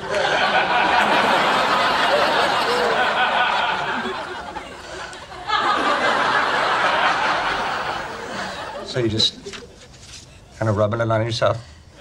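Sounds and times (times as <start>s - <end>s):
studio audience laughing: 0.0s - 9.8s.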